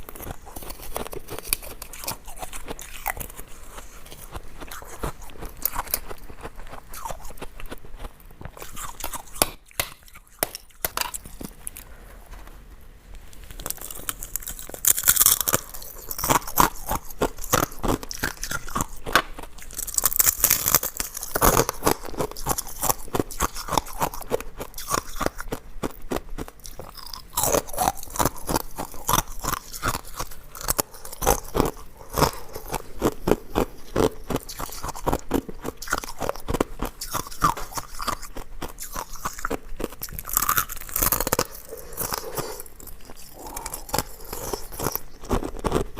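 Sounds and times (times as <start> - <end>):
person crunching ice cubes: 0.0 - 11.9, 13.5 - 45.9.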